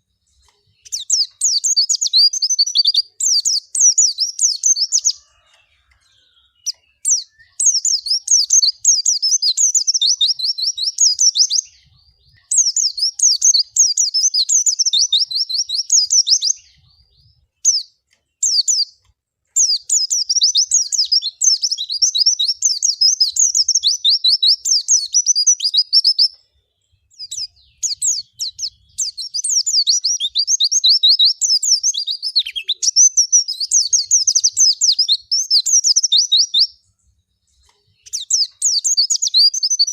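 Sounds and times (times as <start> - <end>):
bird singing fast high twittering: 0.8 - 5.4, 6.1 - 19.0, 19.6 - 26.3, 27.0 - 37.0, 37.8 - 39.9.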